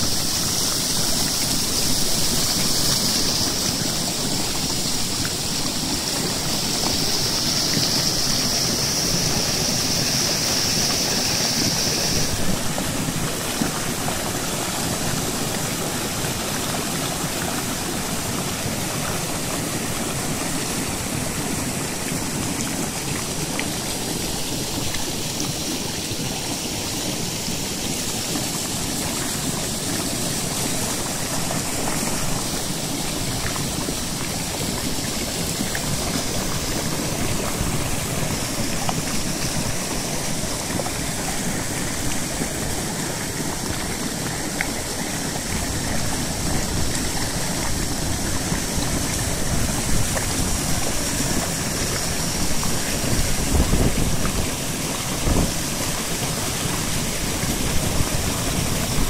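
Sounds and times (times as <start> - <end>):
waterfall rushing over rocks: 0.0 - 59.0.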